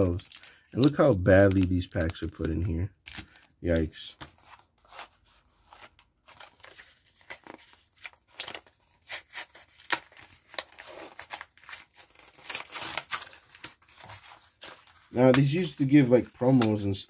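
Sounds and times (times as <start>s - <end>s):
plastic and foil crinkling: 0.0s - 17.0s.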